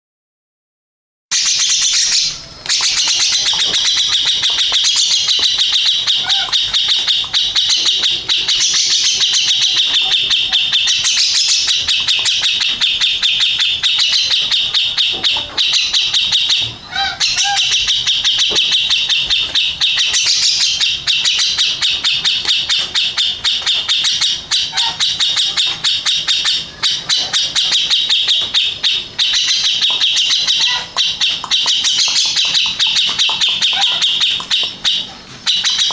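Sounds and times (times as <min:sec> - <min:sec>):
bird singing rapid high notes: 0:01.3 - 0:35.9.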